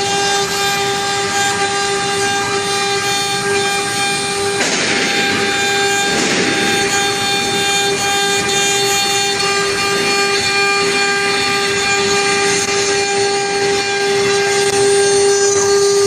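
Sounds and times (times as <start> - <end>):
router bit cutting wood: 0.0 - 16.0
router spindle whining: 0.0 - 16.0.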